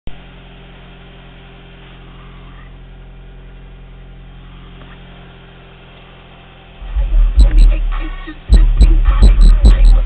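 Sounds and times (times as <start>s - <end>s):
steady low hum: 0.1s - 10.0s.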